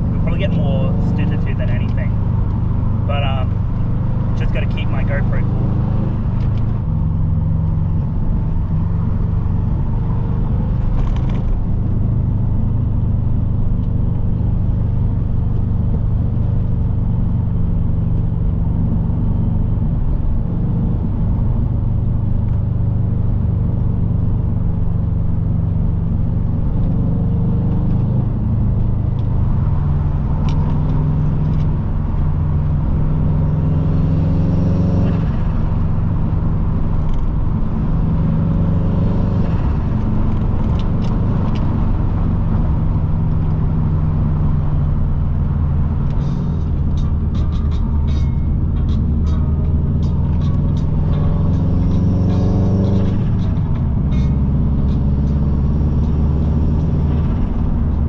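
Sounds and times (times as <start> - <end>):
car engine from inside: 0.0 - 58.0
road noise: 0.0 - 58.0.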